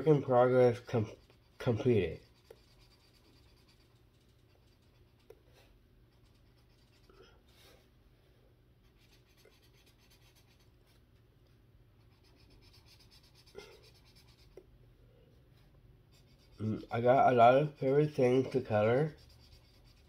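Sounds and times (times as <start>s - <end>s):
marker scratching on paper: 0.0s - 7.4s, 8.8s - 11.0s, 12.0s - 14.7s, 16.1s - 20.0s.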